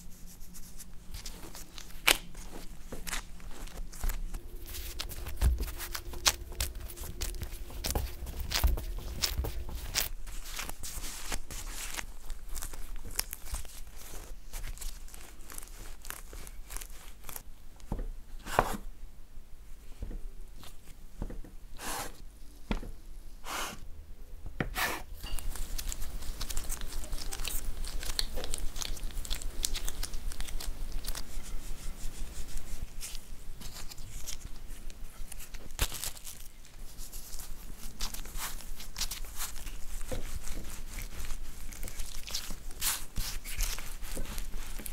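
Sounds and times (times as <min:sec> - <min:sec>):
dough squishing and tearing: 0:00.0 - 0:18.8, 0:25.0 - 0:44.9.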